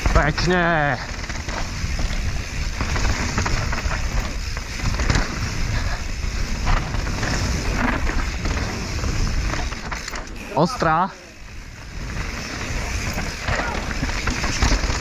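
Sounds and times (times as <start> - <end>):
bike rattling over bumps: 0.0 - 15.0
tyres rolling on dirt: 0.0 - 15.0.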